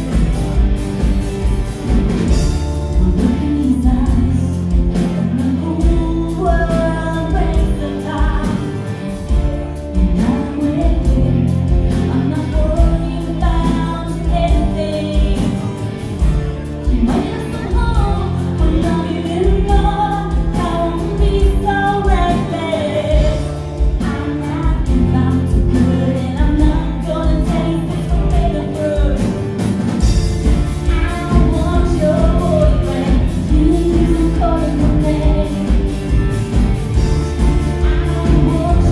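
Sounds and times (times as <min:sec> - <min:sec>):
bass guitar: 0:00.0 - 0:38.9
drum kit: 0:00.0 - 0:38.9
electric guitar: 0:00.0 - 0:38.9
strummed acoustic guitars: 0:00.0 - 0:38.9
woman singing: 0:02.9 - 0:15.8, 0:16.8 - 0:29.6, 0:30.8 - 0:38.9.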